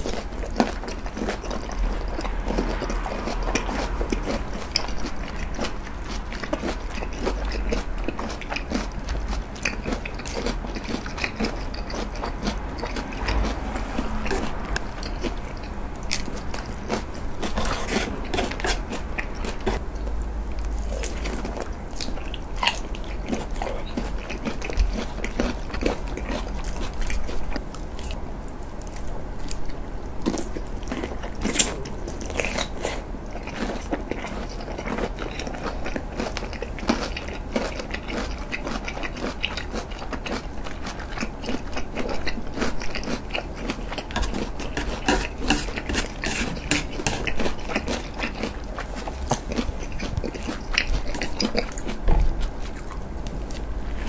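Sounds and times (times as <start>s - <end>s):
biting and chewing: 0.0s - 54.0s.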